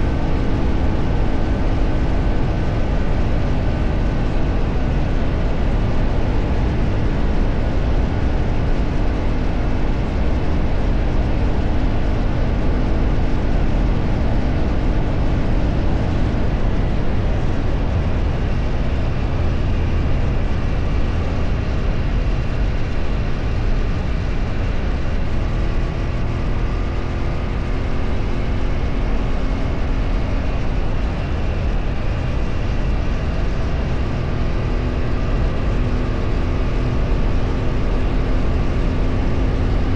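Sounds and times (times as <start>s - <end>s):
engine hum: 0.0s - 39.9s
wind and road noise: 0.0s - 39.9s.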